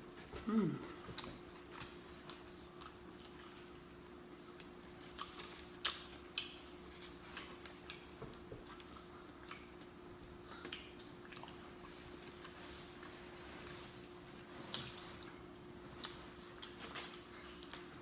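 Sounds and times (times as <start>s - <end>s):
faint steady hum: 0.0s - 18.0s
chewing with wet mouth smacks: 1.0s - 18.0s.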